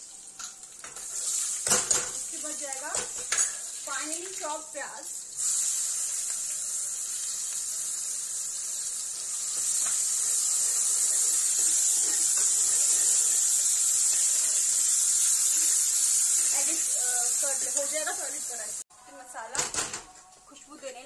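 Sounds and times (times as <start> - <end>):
onion sizzling in hot oil: 0.0 - 19.3.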